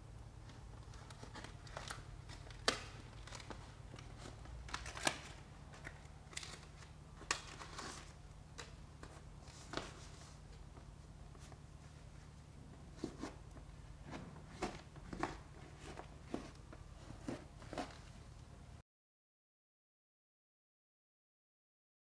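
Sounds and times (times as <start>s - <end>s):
paper liner rustling and crinkling: 0.4s - 18.3s.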